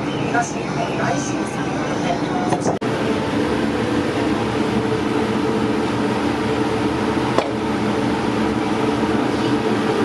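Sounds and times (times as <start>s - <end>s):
fan hum: 0.0s - 10.0s.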